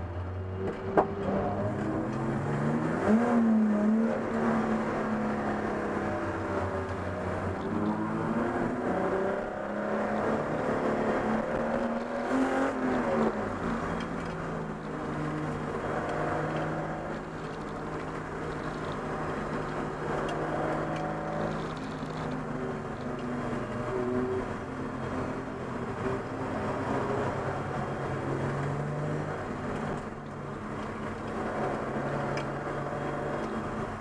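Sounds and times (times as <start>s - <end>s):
race car engine: 0.0s - 34.0s
road and wind noise: 0.0s - 34.0s.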